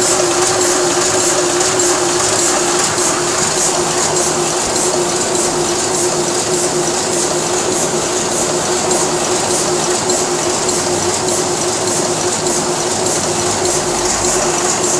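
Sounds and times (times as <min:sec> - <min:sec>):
printing press clatter and hum: 0:00.0 - 0:14.9
rhythmic hissing beat: 0:00.0 - 0:14.9.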